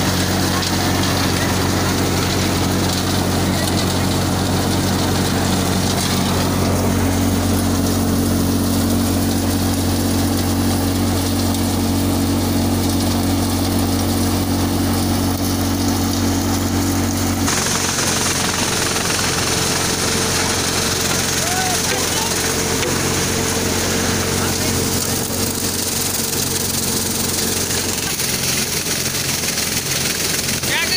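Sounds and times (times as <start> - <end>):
hissy machine noise: 0.0 - 30.9
threshing machine droning hum: 0.0 - 30.9.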